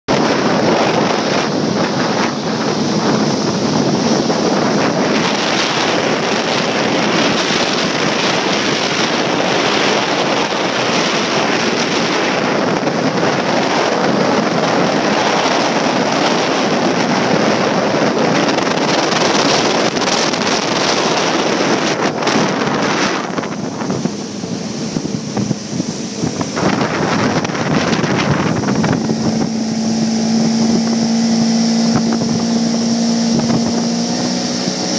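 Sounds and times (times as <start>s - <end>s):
rushing water: 0.1s - 34.9s
wind buffeting microphone: 0.1s - 34.9s.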